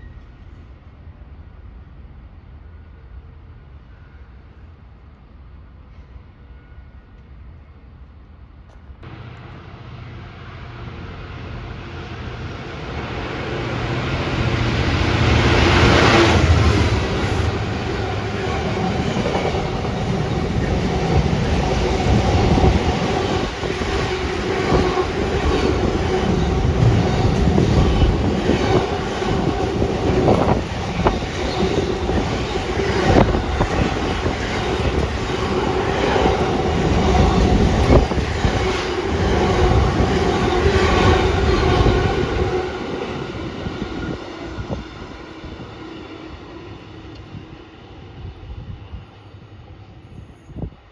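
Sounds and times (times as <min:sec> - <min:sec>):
train rushing past: 0:09.0 - 0:50.9.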